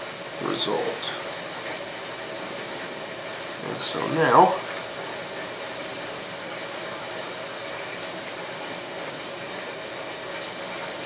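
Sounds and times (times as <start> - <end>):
faint steady hum: 0.0 - 11.0
plastic film crinkling: 0.7 - 2.8, 3.5 - 11.0.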